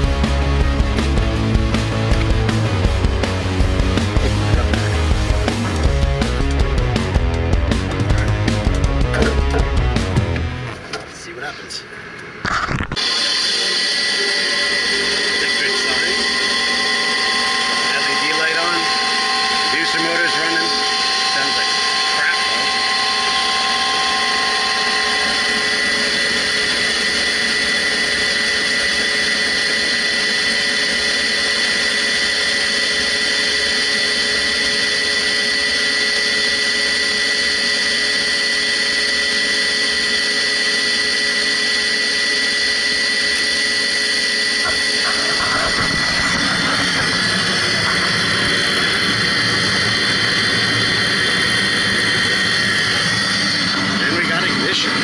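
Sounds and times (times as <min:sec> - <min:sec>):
fan and motor whine: 0:00.0 - 0:55.0.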